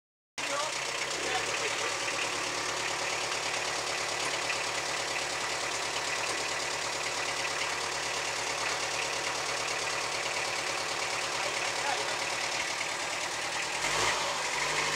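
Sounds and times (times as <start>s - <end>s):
tractor engine running: 0.4s - 14.9s.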